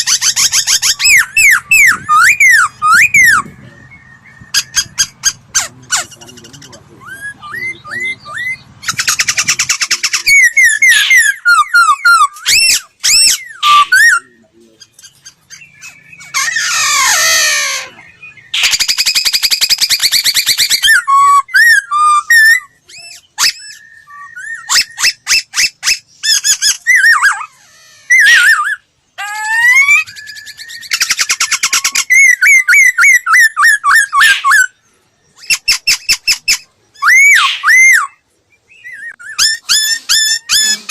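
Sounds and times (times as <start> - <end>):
bird singing varied song: 0.0 - 40.9.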